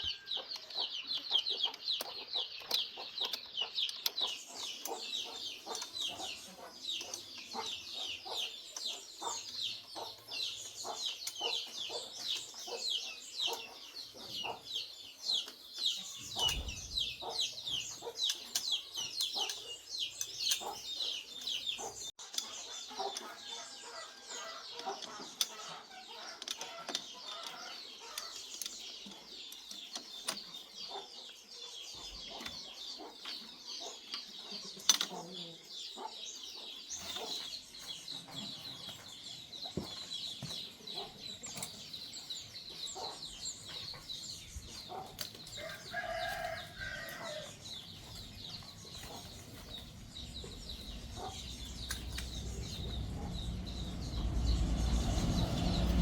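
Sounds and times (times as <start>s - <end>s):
chicks cheeping: 0.0s - 56.0s.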